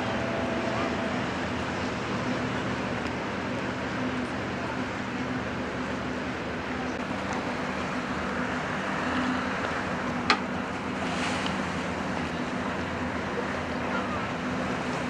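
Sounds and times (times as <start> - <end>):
boat engine humming: 0.0 - 15.0
wind and water noise: 0.0 - 15.0.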